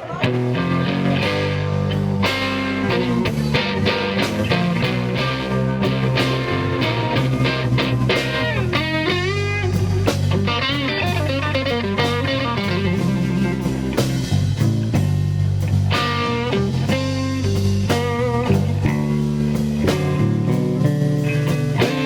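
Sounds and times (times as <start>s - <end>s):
bass guitar: 0.0s - 22.0s
drum kit: 0.0s - 22.0s
electric guitar blues lead: 0.0s - 22.0s.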